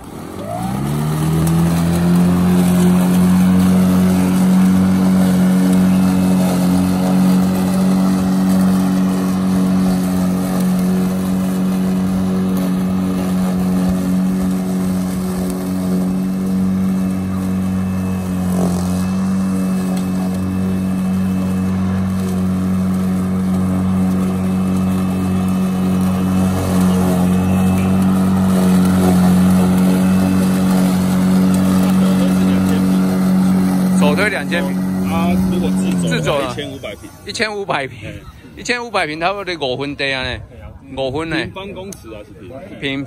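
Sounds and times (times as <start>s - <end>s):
electric lawn mower humming: 0.0s - 40.0s.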